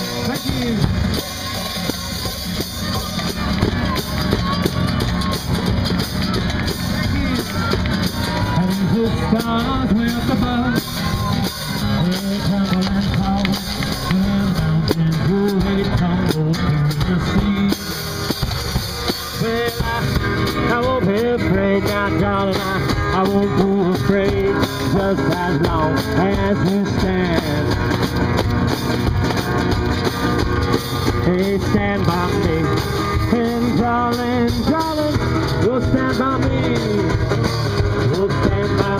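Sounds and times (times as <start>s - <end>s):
steady drum beat: 0.0s - 38.9s
strummed acoustic guitar: 0.0s - 38.9s.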